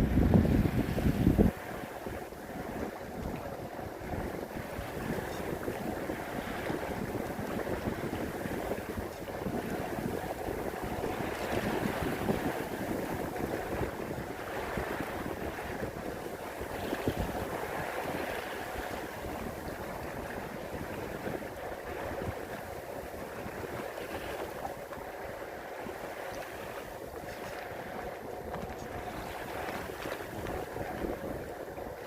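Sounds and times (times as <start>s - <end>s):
water splashing along hull: 0.0s - 32.0s
wind buffeting microphone: 0.0s - 32.0s.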